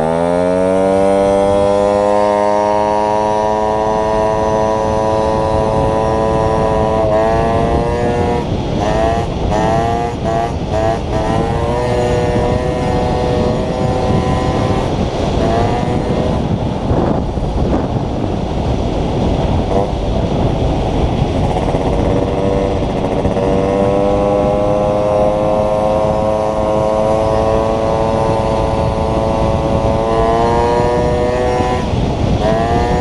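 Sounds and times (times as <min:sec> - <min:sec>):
small motorcycle engine revving: 0:00.0 - 0:33.0
wind on microphone: 0:00.0 - 0:33.0.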